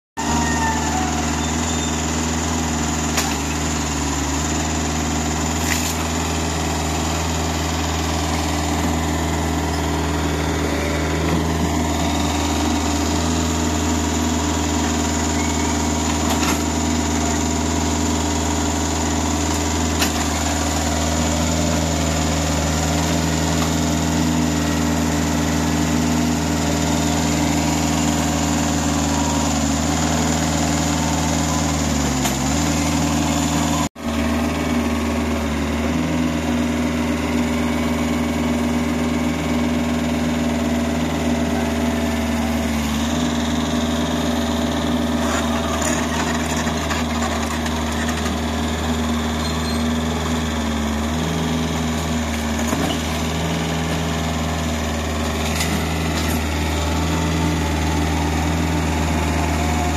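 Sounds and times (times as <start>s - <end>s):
diesel engine running: 0.2s - 59.9s.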